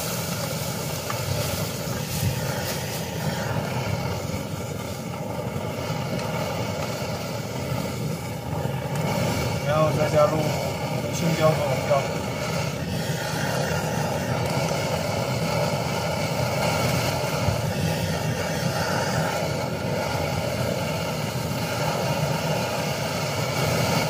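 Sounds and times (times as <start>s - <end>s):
food sizzling in oil: 0.0s - 24.0s
gas stove burner rushing: 0.0s - 24.0s.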